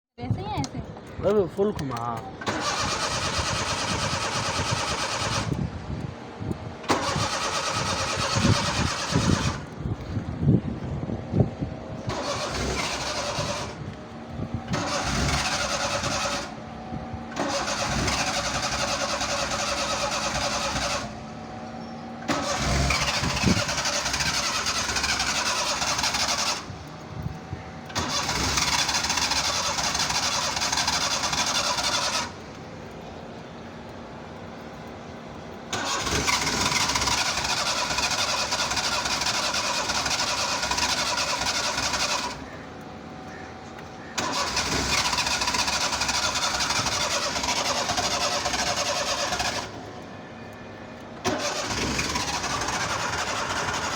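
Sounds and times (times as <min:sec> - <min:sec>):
starter motor cranking engine: 0:01.7 - 0:06.0, 0:06.8 - 0:10.3, 0:12.0 - 0:16.7, 0:17.3 - 0:21.4, 0:22.2 - 0:32.7, 0:35.7 - 0:42.6, 0:43.3 - 0:49.9, 0:51.2 - 0:53.9.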